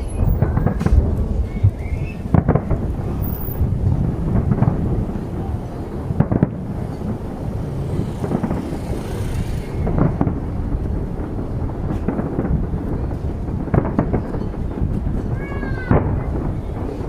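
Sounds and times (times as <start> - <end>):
fireworks shells bursting: 0.0 - 17.0
low rumble of booms: 0.0 - 17.0
sharp fireworks bangs: 0.0 - 17.0.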